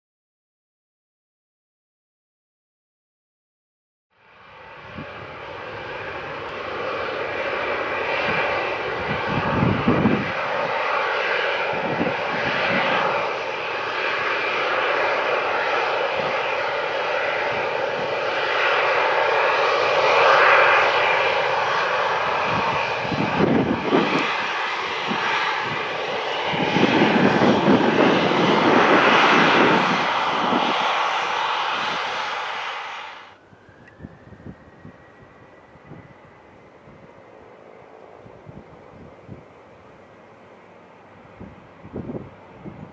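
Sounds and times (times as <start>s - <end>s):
jet engines whining: 4.2s - 42.9s.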